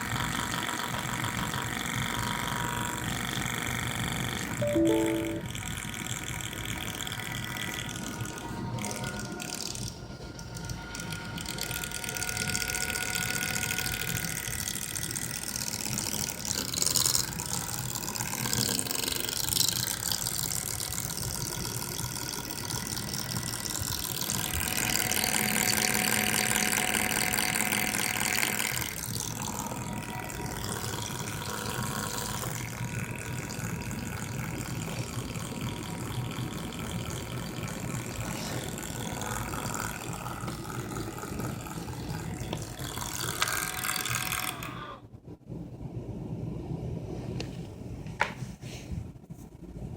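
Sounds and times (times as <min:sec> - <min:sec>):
laptop fan rattling: 0:00.0 - 0:44.8.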